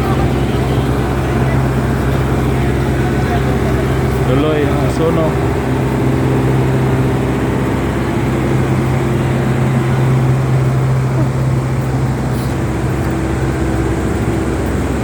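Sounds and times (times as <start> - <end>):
large engine humming: 0.0 - 15.0
street traffic: 0.0 - 15.0.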